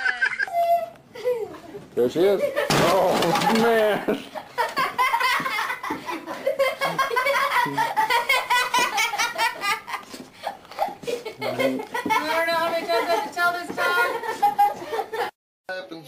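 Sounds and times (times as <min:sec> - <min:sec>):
person laughing high-pitched: 0:00.0 - 0:01.7, 0:03.9 - 0:15.2.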